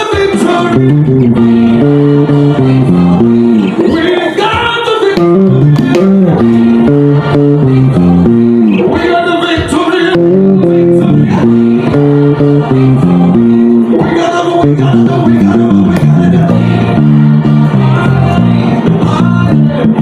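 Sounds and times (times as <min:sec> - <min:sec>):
band backing track: 0:00.0 - 0:20.0
bass guitar line: 0:00.0 - 0:20.0.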